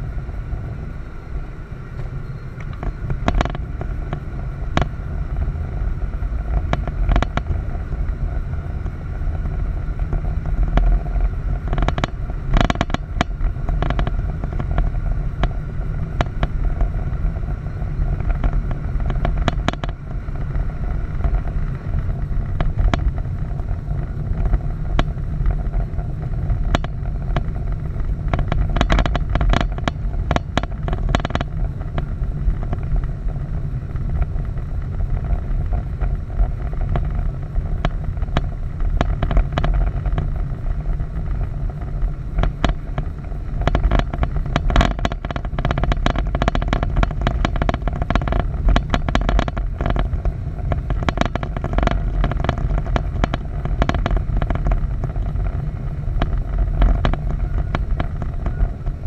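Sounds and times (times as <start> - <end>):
wind buffeting microphone: 0.0 - 59.0
sharp clicks and crackles: 1.9 - 59.0.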